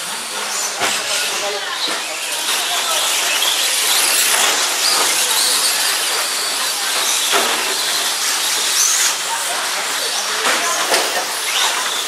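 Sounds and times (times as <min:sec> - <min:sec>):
radio-controlled trucks whining: 0:00.0 - 0:12.0.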